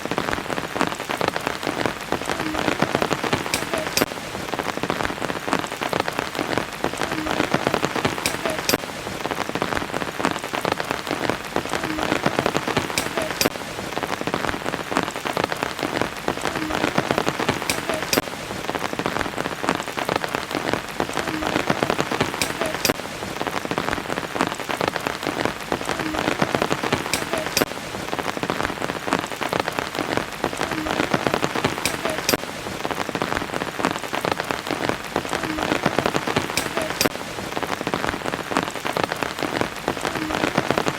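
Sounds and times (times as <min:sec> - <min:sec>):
rain drops ticking: 0:00.0 - 0:40.9
steady rain hiss: 0:00.0 - 0:40.9.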